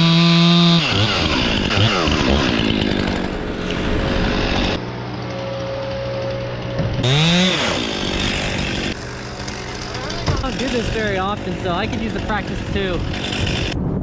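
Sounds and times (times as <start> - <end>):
chainsaw running: 0.0 - 13.8.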